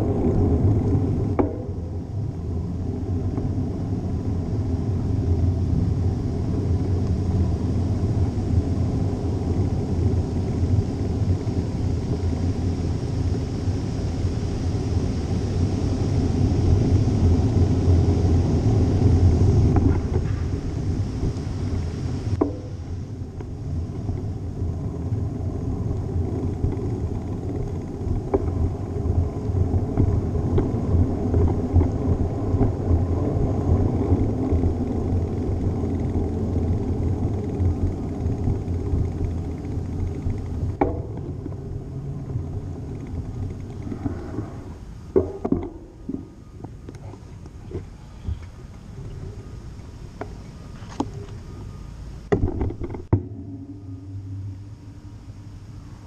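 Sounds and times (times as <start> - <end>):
tyres rumbling on road: 0.0 - 49.0
wind rushing over microphone: 0.0 - 50.4.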